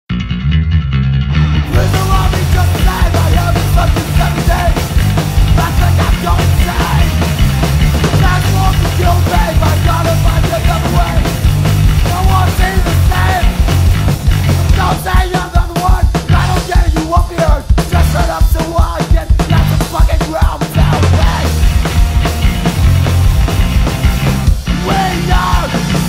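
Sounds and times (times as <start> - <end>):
bass guitar: 0.0 - 26.0
distorted electric guitar: 0.1 - 18.8, 19.4 - 26.0
drums: 0.1 - 26.0.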